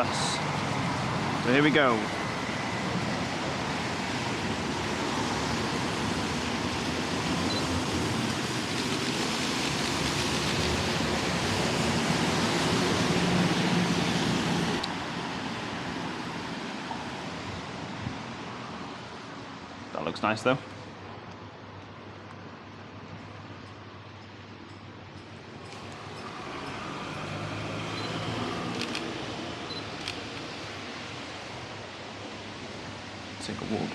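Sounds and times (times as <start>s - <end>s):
bus passing: 0.0s - 19.9s, 25.0s - 33.9s
tyres hissing on wet road: 0.0s - 21.3s, 25.4s - 33.9s.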